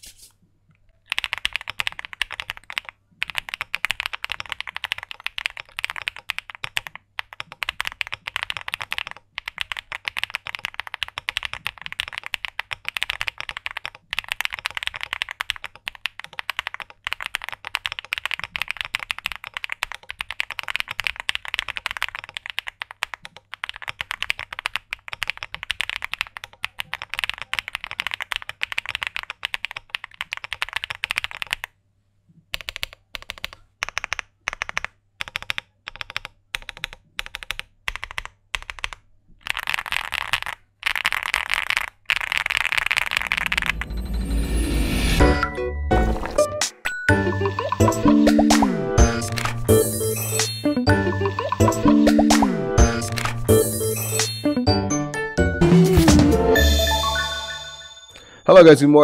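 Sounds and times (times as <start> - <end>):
mechanical keyboard typing: 1.0 - 31.7, 32.5 - 44.0, 47.2 - 54.7.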